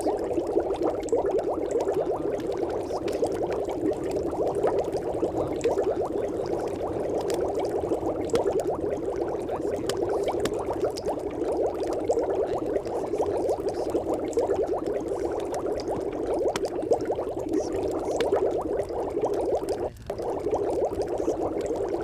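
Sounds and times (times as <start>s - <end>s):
water bubbling at a rolling boil: 0.0s - 22.0s.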